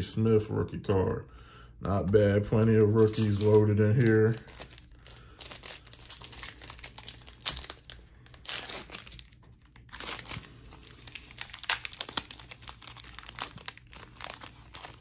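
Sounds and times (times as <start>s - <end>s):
foil wrapper crinkling: 2.8s - 15.0s
wrapper tearing: 2.9s - 15.0s.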